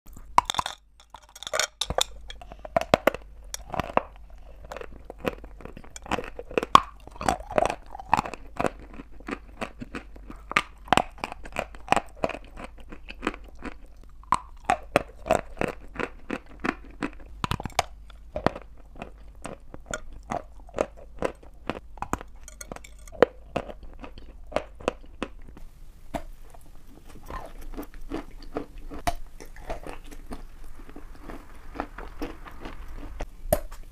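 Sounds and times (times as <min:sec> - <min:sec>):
chewing crunchy chalk: 0:00.1 - 0:25.6, 0:26.5 - 0:33.8.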